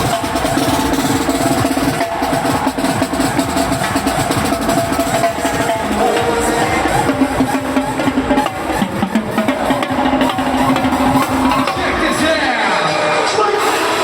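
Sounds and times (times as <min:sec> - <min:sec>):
music with fast dense drumming: 0:00.0 - 0:14.0.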